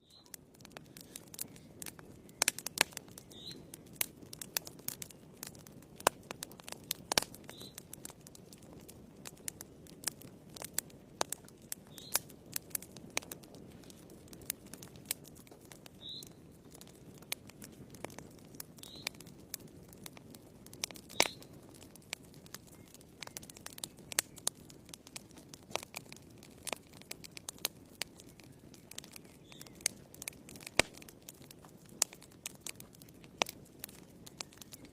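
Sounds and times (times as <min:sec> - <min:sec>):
wood fire crackling and popping: 0:00.0 - 0:34.9
low rush of flame: 0:00.4 - 0:34.9.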